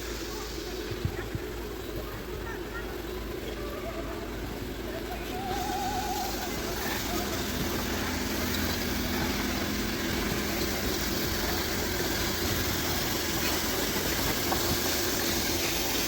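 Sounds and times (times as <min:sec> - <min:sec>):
locomotive engine humming: 0:00.0 - 0:16.0.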